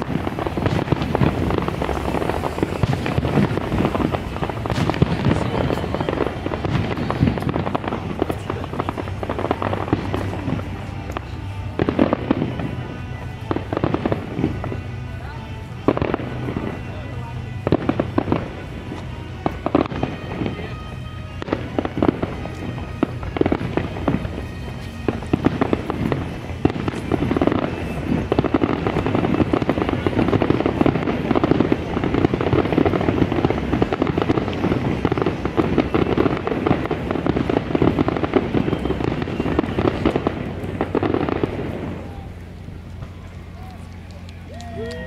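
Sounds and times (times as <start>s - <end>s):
fireworks exploding: 0.0s - 45.0s
fireworks popping and crackling: 0.0s - 45.0s.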